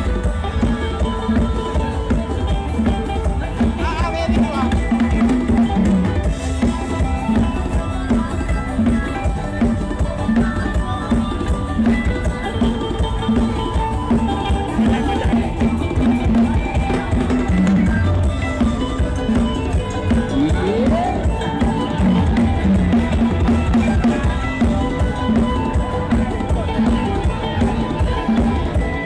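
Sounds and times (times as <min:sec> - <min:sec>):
loud music with drum beat: 0:00.0 - 0:29.0.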